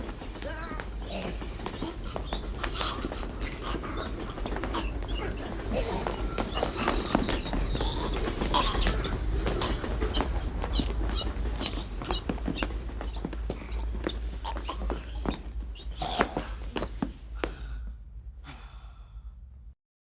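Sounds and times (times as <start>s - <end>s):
scuffling knocks and clicks: 0.0s - 17.3s.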